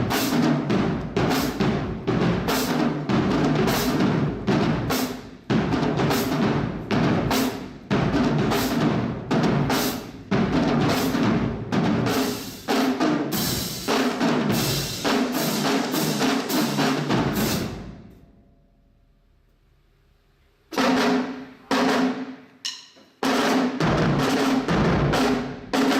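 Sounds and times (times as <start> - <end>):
drums with bass drum and snare: 0.0 - 18.4, 19.6 - 25.9.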